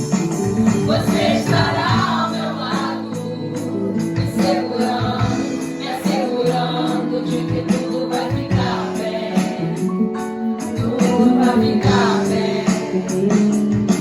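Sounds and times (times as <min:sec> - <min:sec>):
drums: 0:00.0 - 0:14.0
keyboard: 0:00.0 - 0:14.0.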